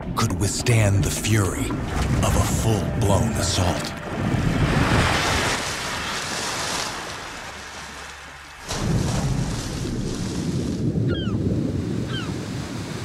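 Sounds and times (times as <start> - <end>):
deep surge of churning water: 0.0 - 13.0
water splashing and rushing: 0.0 - 13.0.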